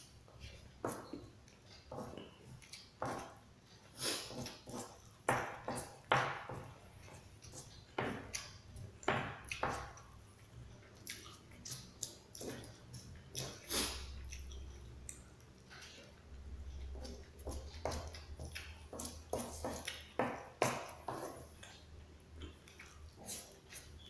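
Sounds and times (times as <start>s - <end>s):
chewing: 0.0s - 24.0s.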